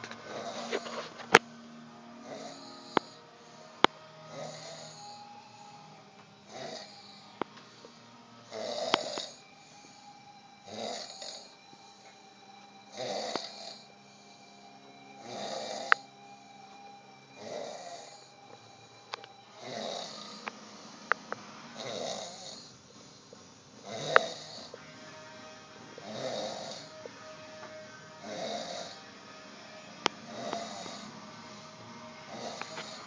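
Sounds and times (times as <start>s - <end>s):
man snoring heavily: 0.0s - 1.4s, 2.0s - 20.9s, 21.7s - 24.8s, 26.0s - 27.1s, 28.2s - 29.2s, 30.2s - 33.0s
faint music: 0.0s - 33.0s.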